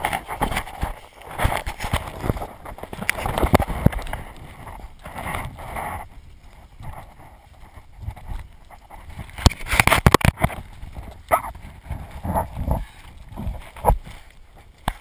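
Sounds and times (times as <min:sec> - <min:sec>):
crawling scuffs on dirt: 0:00.0 - 0:15.0.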